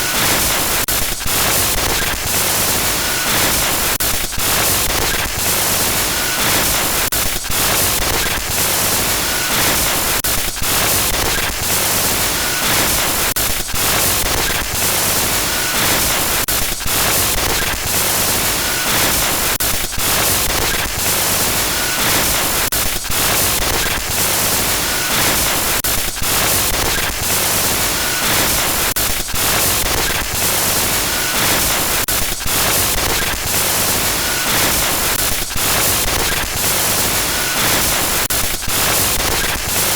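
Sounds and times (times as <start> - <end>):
harsh electronic static hiss: 0.0 - 39.9.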